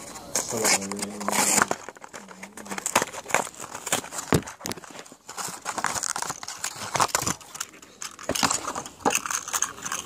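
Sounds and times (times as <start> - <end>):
plastic packaging clicks and crinkles: 0.0 - 10.0.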